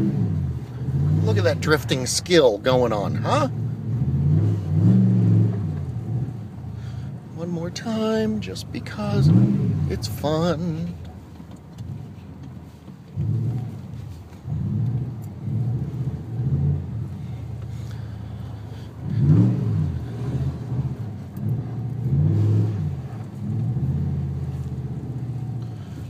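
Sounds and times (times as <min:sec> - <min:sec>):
vehicle engine revving: 0:00.0 - 0:02.1, 0:02.7 - 0:07.0, 0:08.7 - 0:11.0, 0:12.7 - 0:26.0.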